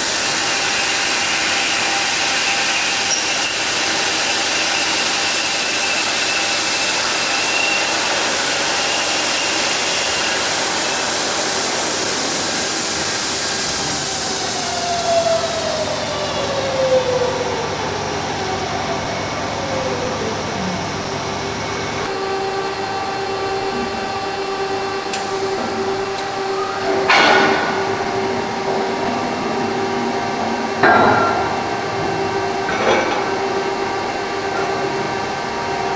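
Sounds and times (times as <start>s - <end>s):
falling machine whine: 0.2s - 35.9s.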